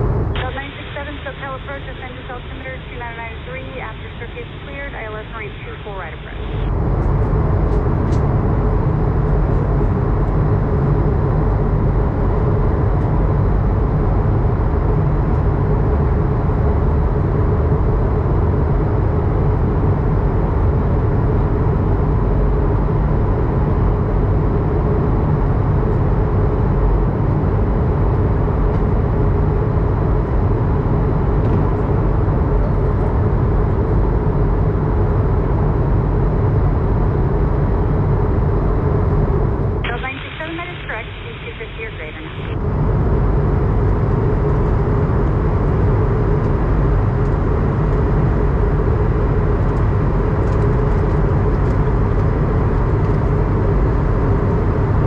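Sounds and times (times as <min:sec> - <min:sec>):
airliner cabin rumble and hum: 0:00.0 - 0:55.0.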